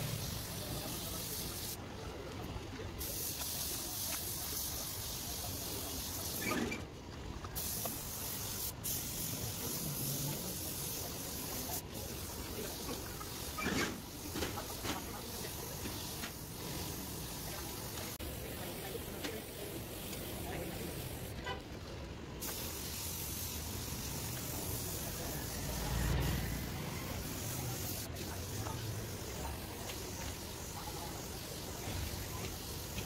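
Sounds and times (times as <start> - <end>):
paint spray gun hissing: 0.0 - 1.8, 3.0 - 6.6, 7.6 - 21.3, 22.4 - 33.0.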